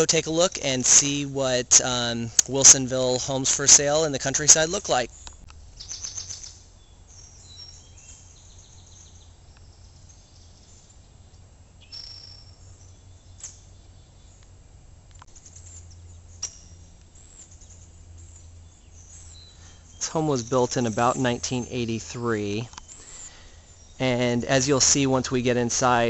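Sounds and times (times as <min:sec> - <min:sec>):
low steady hum: 0:00.0 - 0:26.0
wild birds chirping: 0:00.0 - 0:26.0.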